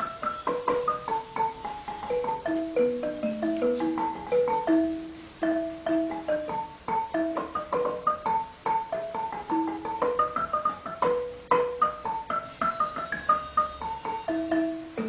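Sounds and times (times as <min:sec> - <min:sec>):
mallet percussion melody: 0:00.0 - 0:15.0.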